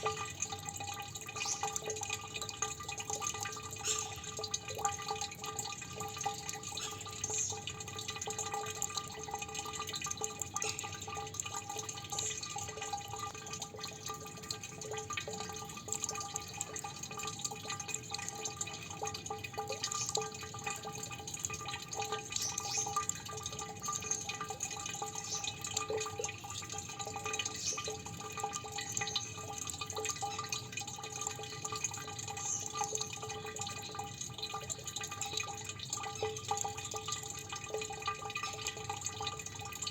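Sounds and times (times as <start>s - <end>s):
water dripping with ringing plinks: 0.0s - 39.9s.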